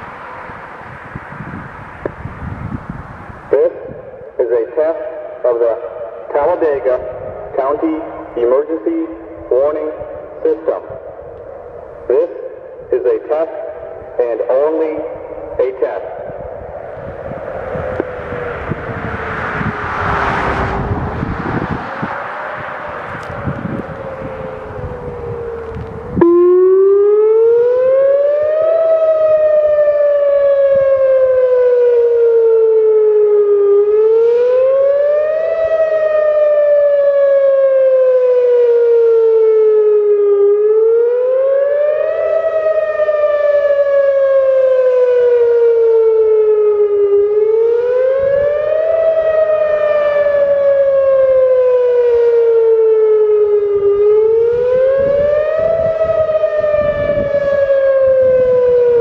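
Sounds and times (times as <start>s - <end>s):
warning siren wail: 0.0s - 59.0s.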